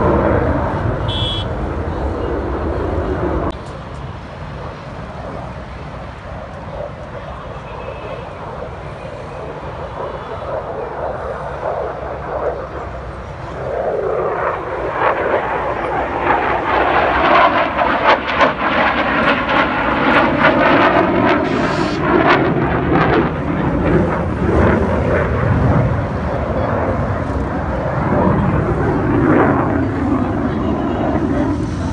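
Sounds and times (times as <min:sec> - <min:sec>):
jet engine roar: 0:00.0 - 0:31.9.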